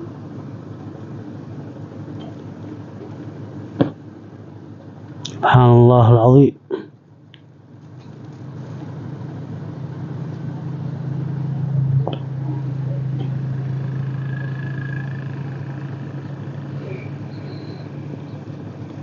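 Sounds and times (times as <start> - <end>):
low engine hum: 0.0 - 6.2, 7.2 - 19.0.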